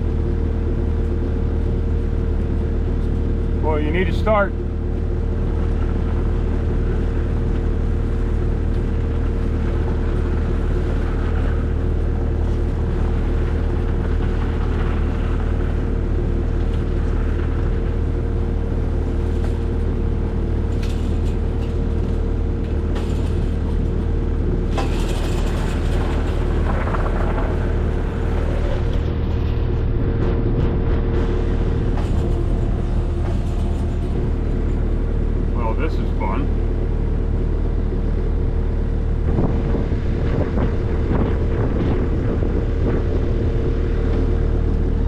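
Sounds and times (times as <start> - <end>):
skid steer engine running: 0.0 - 45.0.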